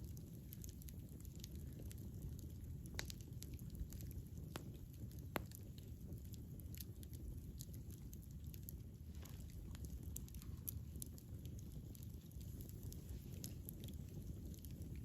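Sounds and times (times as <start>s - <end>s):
campfire crackling: 0.0s - 15.0s
low steady rumble: 0.0s - 15.0s.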